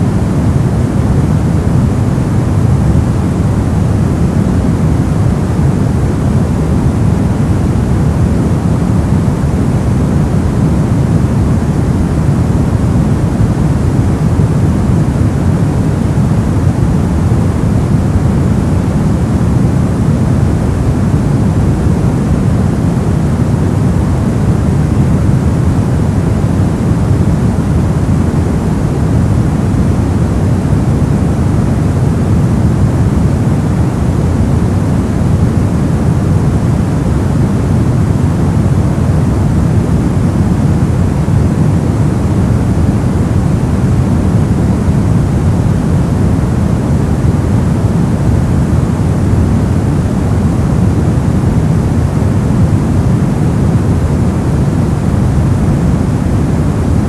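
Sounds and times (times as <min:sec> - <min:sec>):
deep rushing brown noise: 0:00.0 - 0:57.0.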